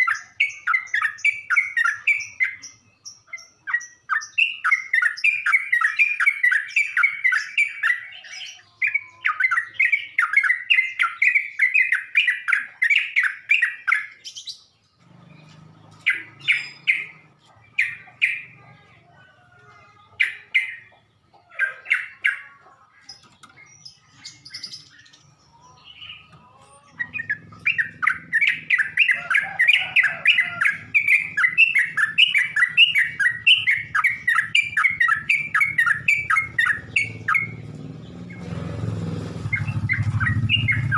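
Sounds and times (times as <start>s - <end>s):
bulbul chattering song: 0.0s - 40.9s.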